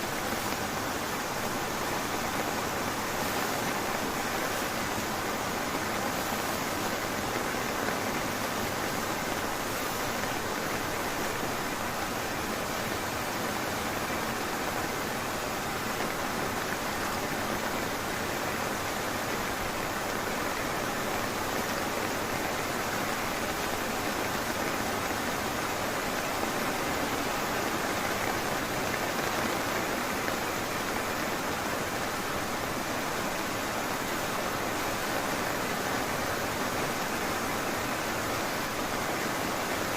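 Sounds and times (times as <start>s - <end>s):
heavy rain on forest: 0.0s - 39.9s.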